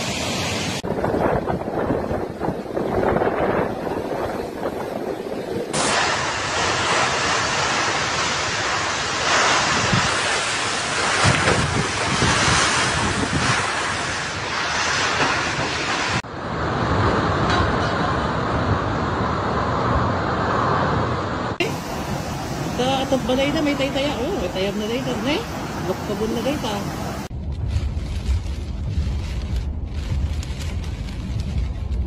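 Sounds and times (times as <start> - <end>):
waves breaking: 0.0 - 27.3
rain: 0.0 - 32.0
strong wind buffeting microphone: 0.8 - 32.0.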